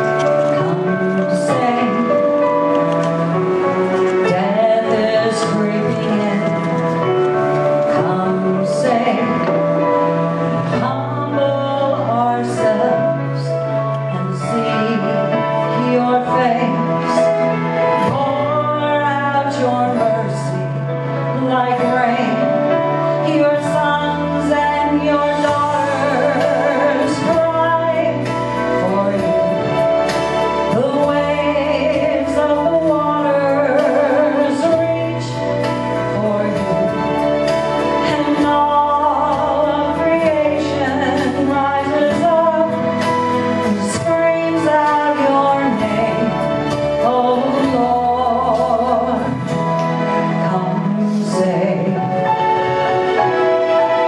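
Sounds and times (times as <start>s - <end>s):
sustained instrumental accompaniment: 0.0s - 54.0s
woman singing with vibrato: 0.0s - 54.0s.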